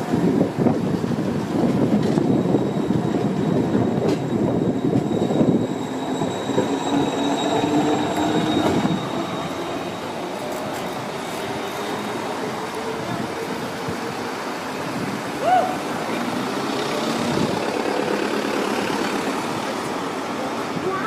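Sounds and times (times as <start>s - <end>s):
tram rolling on rails: 0.0s - 21.0s.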